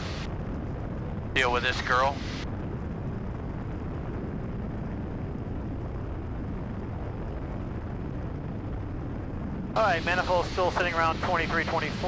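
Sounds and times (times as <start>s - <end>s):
airplane engine droning in cabin: 0.0s - 12.0s.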